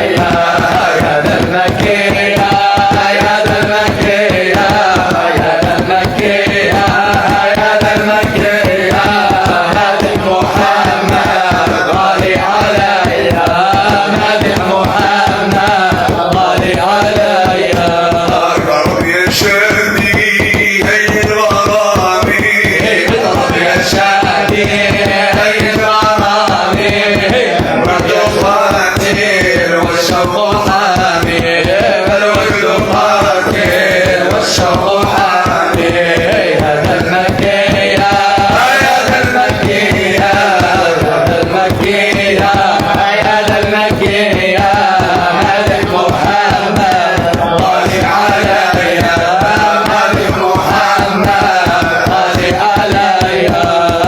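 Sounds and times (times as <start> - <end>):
fast percussion beat: 0.0 - 54.0
voices chanting devotional song: 0.0 - 54.0.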